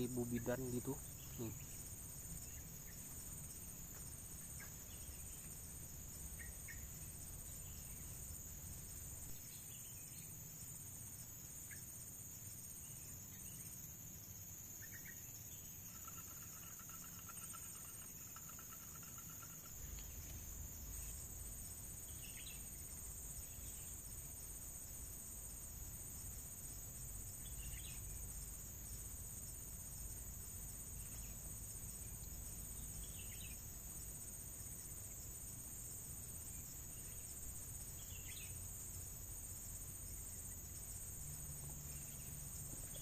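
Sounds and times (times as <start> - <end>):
insect drone: 0.0 - 43.0
pulsing insect chirp: 0.0 - 43.0
short insect chirps and trill: 0.0 - 43.0.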